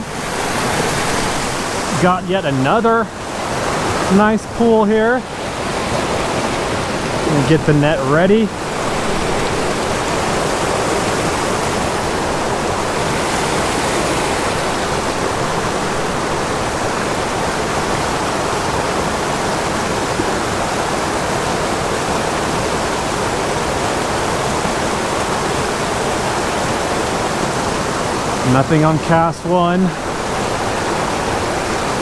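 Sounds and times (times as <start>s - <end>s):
mountain creek rushing: 0.0s - 32.0s.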